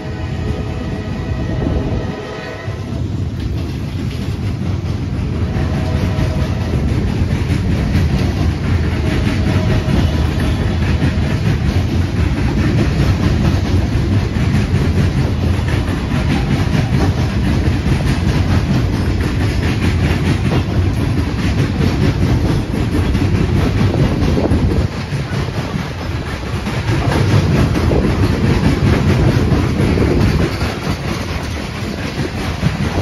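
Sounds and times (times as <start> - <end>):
train wheels rumbling on rails: 0.0 - 33.0
rapid clicks and knocks of wheels: 3.1 - 33.0.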